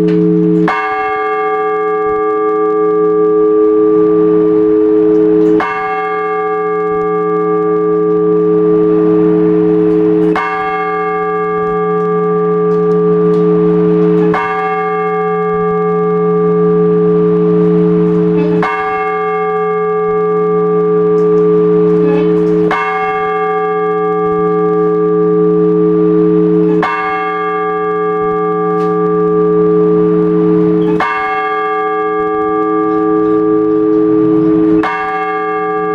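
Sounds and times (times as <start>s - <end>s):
large church bell tolling: 0.0s - 35.9s.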